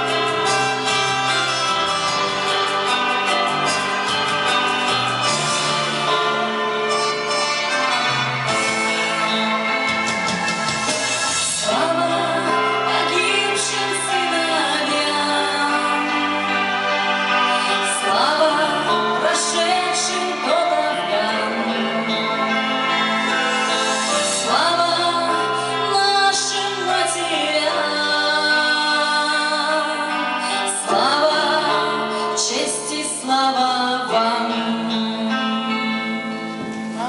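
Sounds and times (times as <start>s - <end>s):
instrumental accompaniment: 0.0s - 37.0s.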